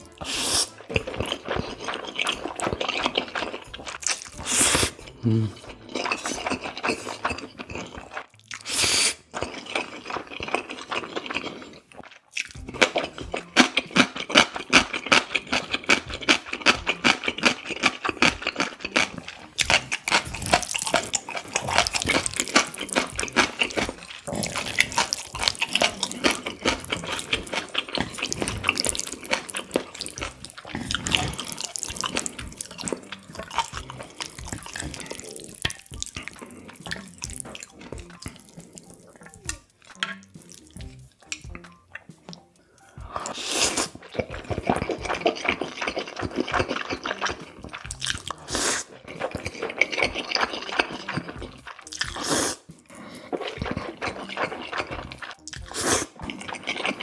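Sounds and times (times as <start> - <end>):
noodle slurping: 0.0 - 12.2, 12.9 - 41.0, 43.0 - 57.0
wet chewing and smacking: 0.0 - 57.0.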